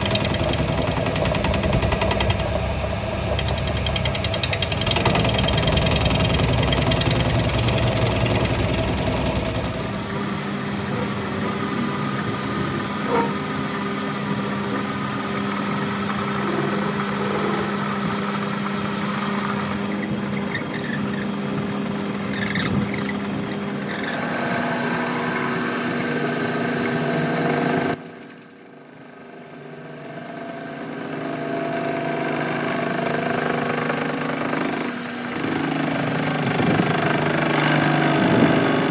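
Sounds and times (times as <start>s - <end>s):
power tools running: 0.0s - 38.9s.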